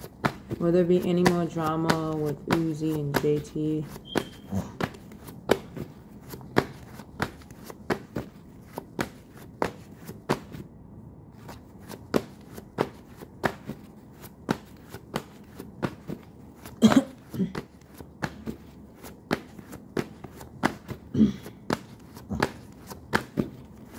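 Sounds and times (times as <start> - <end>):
cards being shuffled: 0.0 - 23.9.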